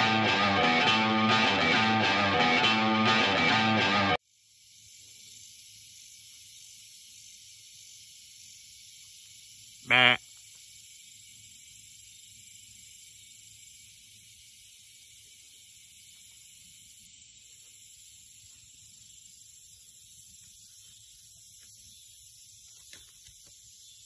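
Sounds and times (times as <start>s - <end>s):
insect chorus hissing: 4.2s - 24.0s.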